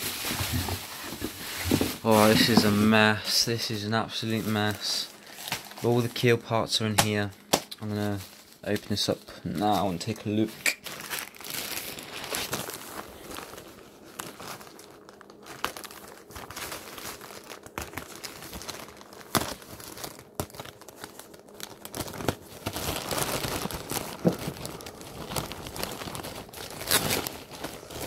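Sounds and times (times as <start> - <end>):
packaging crinkling and tearing: 0.0 - 28.0.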